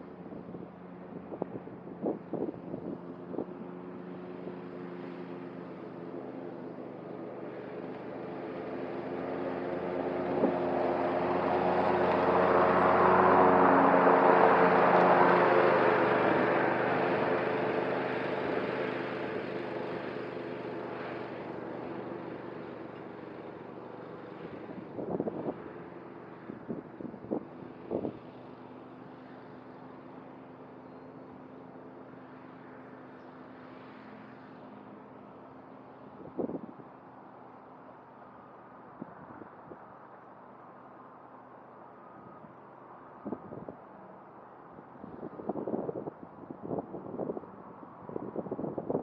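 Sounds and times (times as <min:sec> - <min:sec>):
riding mower running: 0:00.0 - 0:41.5.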